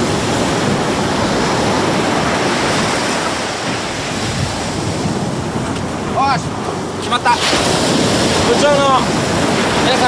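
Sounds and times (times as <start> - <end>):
ocean surf breaking on a beach: 0.0 - 10.0.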